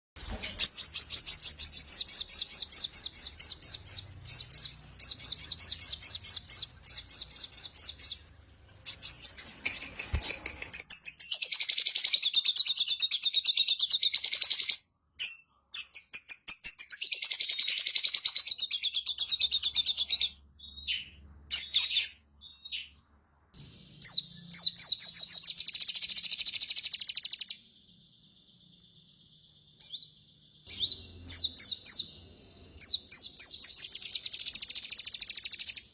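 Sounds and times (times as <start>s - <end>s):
songbird trilling: 0.2s - 22.9s, 23.6s - 27.7s, 29.7s - 35.9s.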